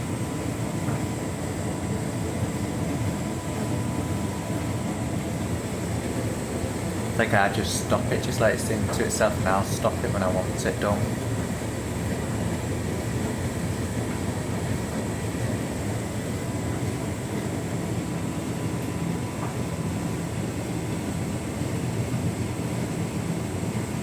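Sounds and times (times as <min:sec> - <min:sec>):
tumble dryer humming: 0:00.0 - 0:24.0.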